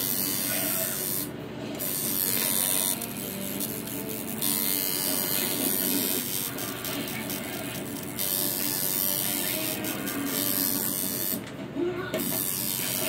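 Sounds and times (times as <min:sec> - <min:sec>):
tattoo machine buzzing: 0:00.0 - 0:11.5, 0:12.1 - 0:13.0.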